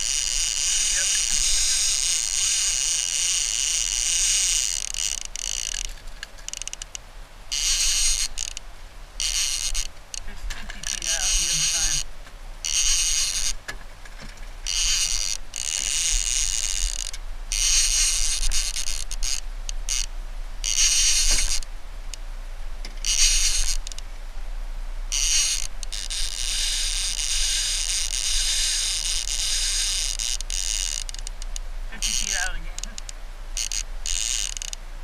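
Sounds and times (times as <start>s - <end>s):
fishing reel clicker ratcheting: 0.0s - 8.6s, 9.2s - 10.2s, 10.8s - 12.0s, 12.6s - 13.6s, 14.6s - 21.7s, 23.0s - 24.0s, 25.1s - 34.8s.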